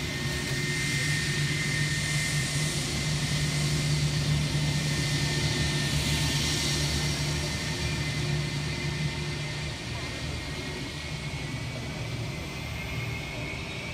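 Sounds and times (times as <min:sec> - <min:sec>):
jet engines rumbling with high whine: 0:00.0 - 0:13.9.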